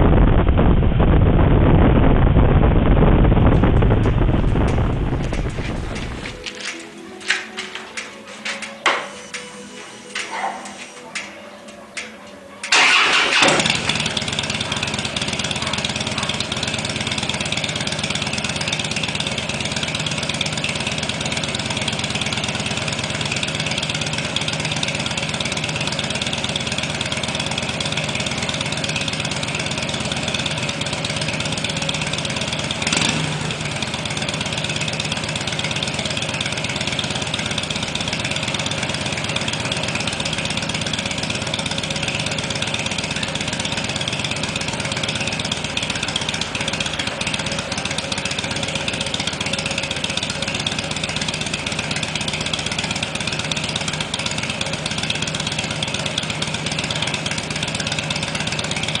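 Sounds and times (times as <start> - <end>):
motorcycle engine starting and idling: 2.8 - 59.0.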